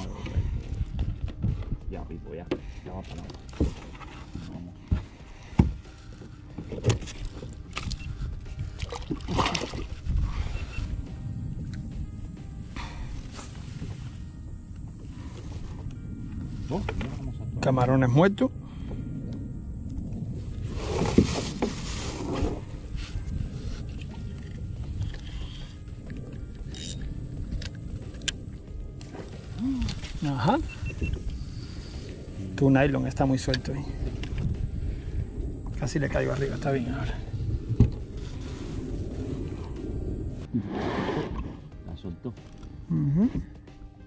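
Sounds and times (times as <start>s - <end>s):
wind rumble on microphone: 0.0s - 41.8s.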